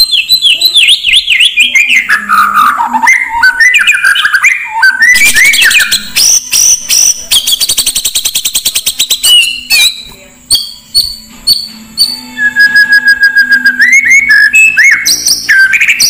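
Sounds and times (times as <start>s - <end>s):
bird singing whistled phrases: 0.0s - 16.0s.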